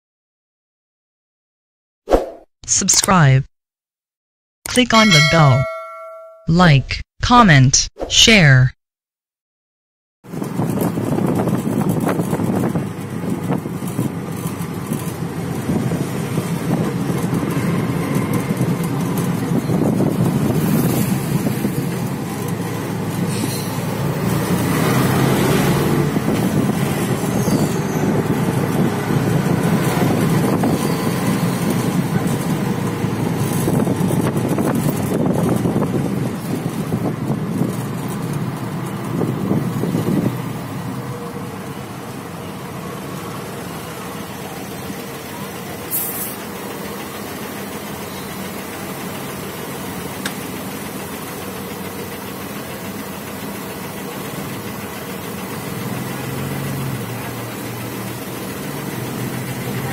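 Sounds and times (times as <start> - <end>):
bus and car engines: 10.2 - 59.9
road and wind noise: 10.2 - 59.9.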